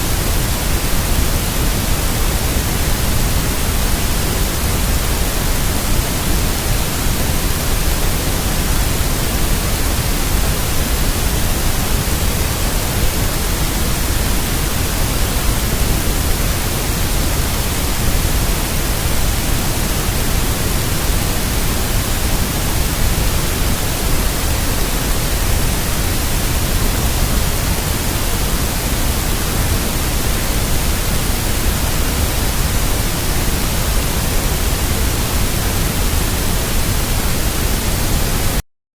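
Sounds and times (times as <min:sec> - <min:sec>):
static hiss: 0:00.0 - 0:38.6.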